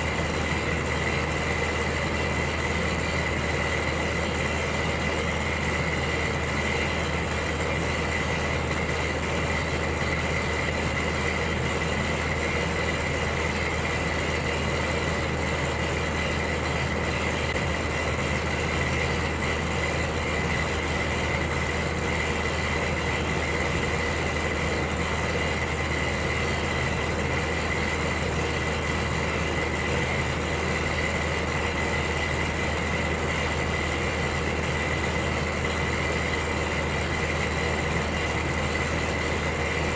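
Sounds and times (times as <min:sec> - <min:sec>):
electric heater rushing: 0:00.0 - 0:39.9.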